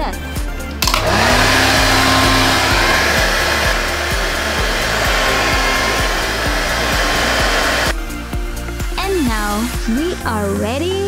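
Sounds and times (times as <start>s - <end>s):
hair dryer running: 0.8s - 9.9s.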